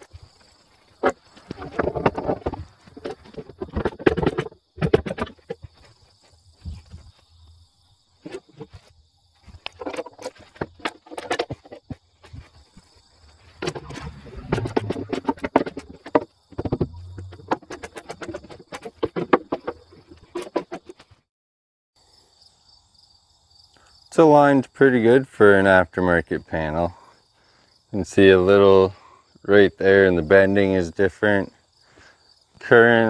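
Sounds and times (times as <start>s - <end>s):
crickets chirping: 0.0s - 21.2s, 22.0s - 33.0s.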